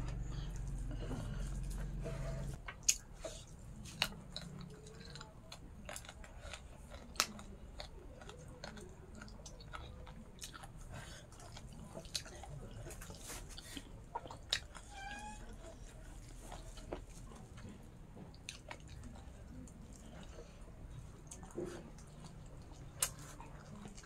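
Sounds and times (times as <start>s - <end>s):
people chewing food: 0.0s - 24.0s.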